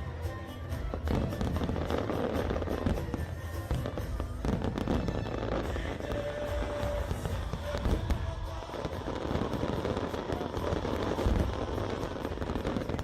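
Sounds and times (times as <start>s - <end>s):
fireworks bursts and crackling: 0.0s - 13.0s.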